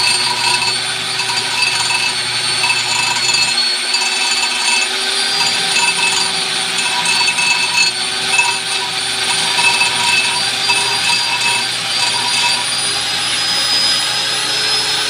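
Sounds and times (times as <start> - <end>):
power tool grinding metal: 0.0 - 14.2.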